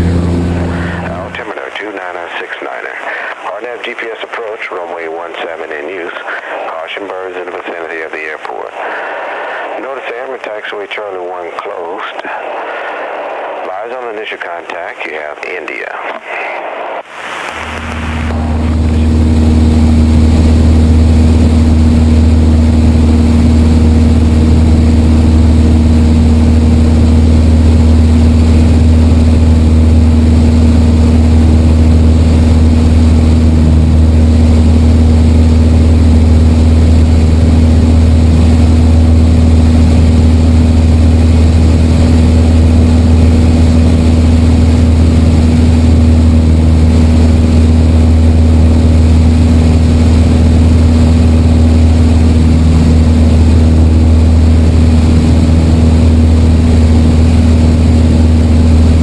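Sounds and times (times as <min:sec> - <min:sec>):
aircraft engine droning: 0:00.0 - 0:59.0.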